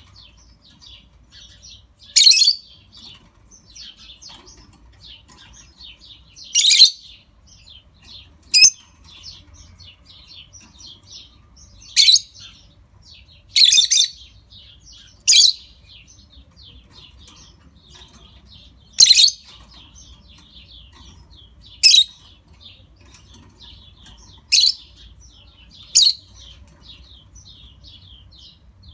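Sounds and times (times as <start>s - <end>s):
lovebirds chirping: 0.0s - 28.9s.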